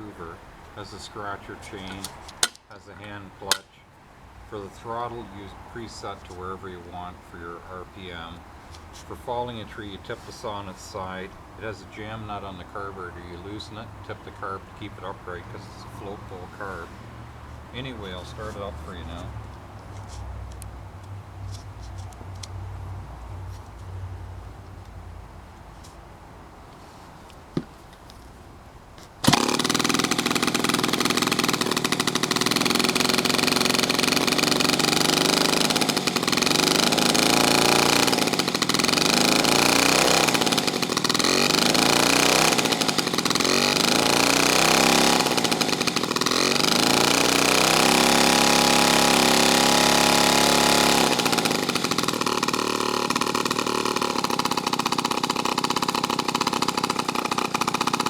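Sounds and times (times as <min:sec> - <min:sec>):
chainsaw engine running: 0:00.0 - 0:03.7, 0:04.4 - 0:20.6, 0:29.2 - 0:58.0.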